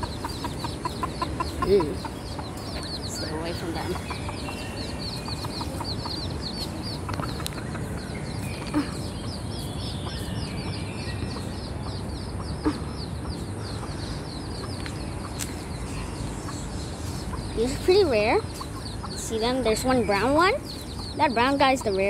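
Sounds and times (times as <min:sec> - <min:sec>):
hen clucking: 0:00.0 - 0:10.2, 0:11.3 - 0:22.0
chicks peeping: 0:00.0 - 0:22.0.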